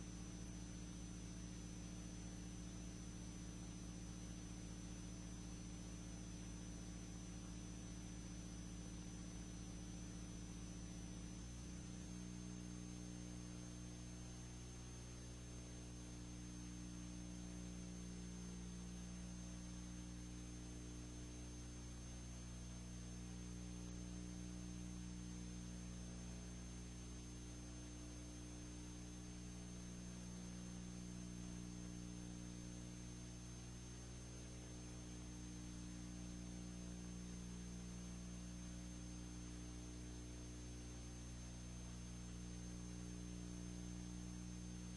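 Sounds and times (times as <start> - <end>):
low electrical hum with hiss: 0.0 - 44.9.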